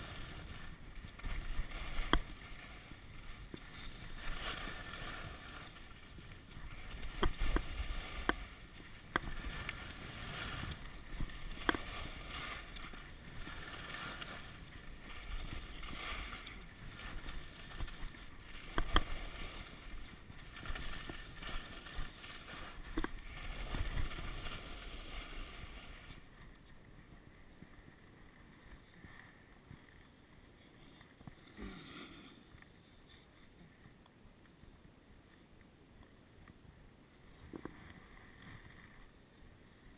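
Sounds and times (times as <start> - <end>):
skis scraping over snow: 0.0 - 33.4.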